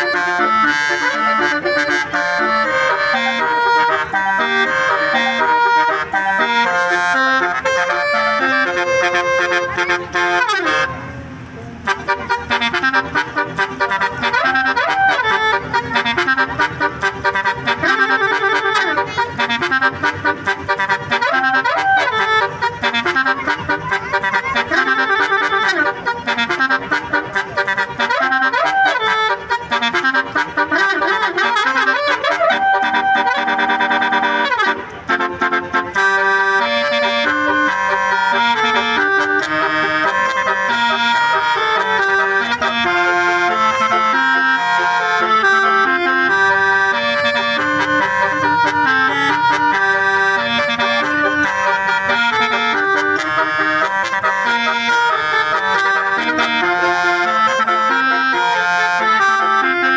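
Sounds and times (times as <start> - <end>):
multi-tone bus horn melody: 0.0 - 59.9.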